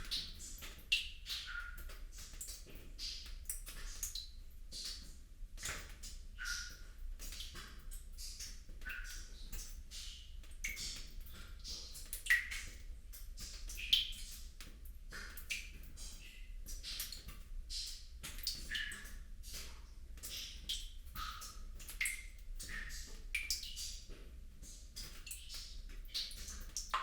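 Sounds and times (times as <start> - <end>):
water trickling and gurgling: 0.0 - 27.0.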